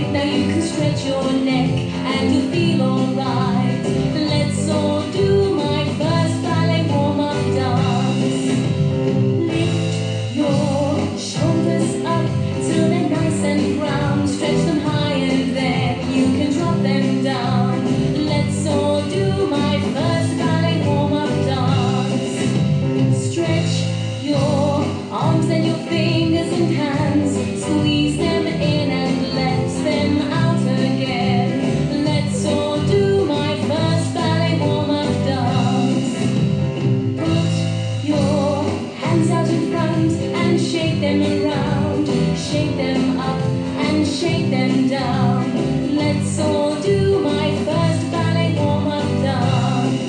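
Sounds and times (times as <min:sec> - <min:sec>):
song with singer over beat: 0:00.0 - 0:50.0.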